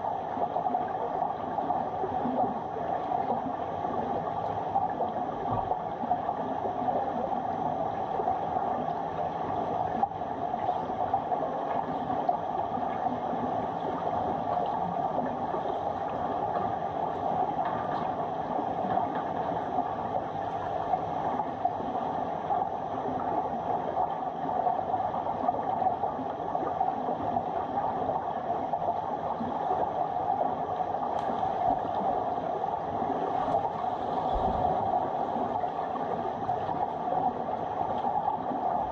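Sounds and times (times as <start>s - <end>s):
underwater rushing noise: 0.0s - 38.9s.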